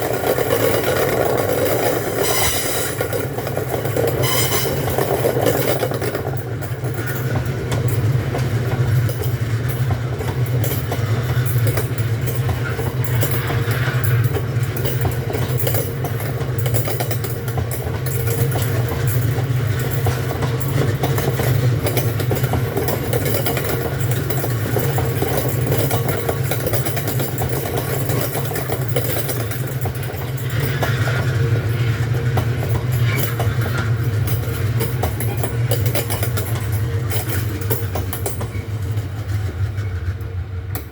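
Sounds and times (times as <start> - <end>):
clicking and rattling: 0.0 - 39.9.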